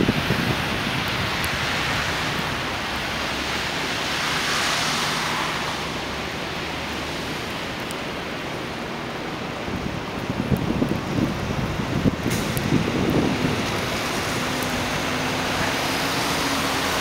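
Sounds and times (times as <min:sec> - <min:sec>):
blizzard wind hissing: 0:00.0 - 0:17.0.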